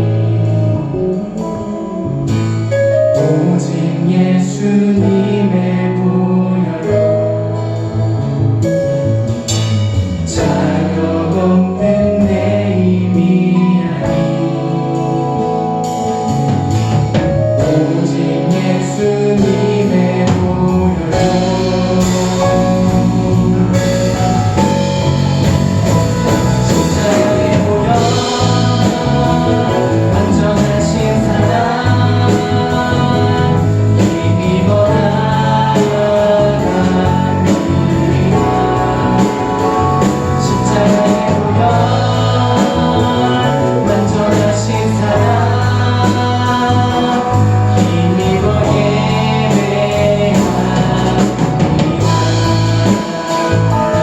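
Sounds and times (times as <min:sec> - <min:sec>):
people singing worship song: 0:00.0 - 0:08.7, 0:09.3 - 0:54.0
guitar: 0:00.0 - 0:54.0.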